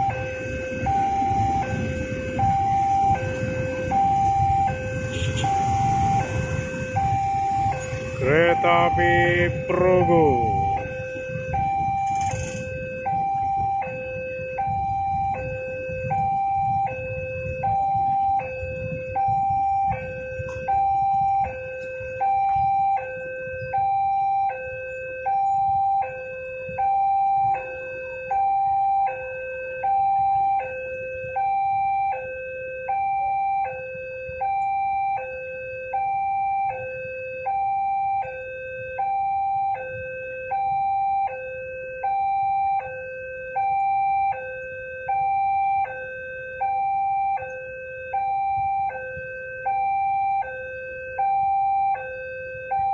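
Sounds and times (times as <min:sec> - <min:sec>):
two-tone level crossing alarm: 0:00.0 - 0:52.9.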